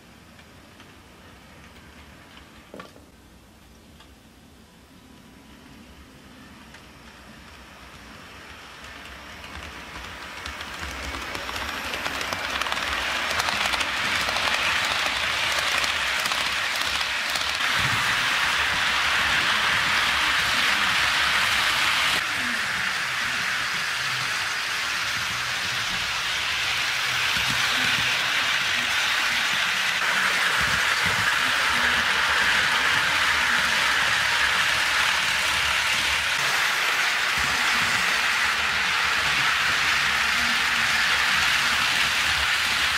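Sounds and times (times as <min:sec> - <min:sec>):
model train wheels on rails: 0:00.0 - 0:03.2, 0:05.0 - 0:42.9
locomotive motor and gearing: 0:08.2 - 0:42.9.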